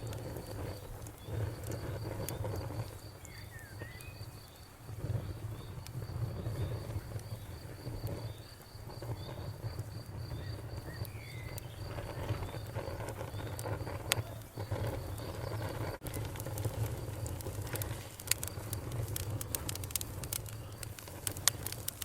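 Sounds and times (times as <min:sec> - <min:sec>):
bonfire rumbling: 0:00.0 - 0:22.0
crickets chirping: 0:00.0 - 0:22.0
fire pops and crackles: 0:00.0 - 0:22.0.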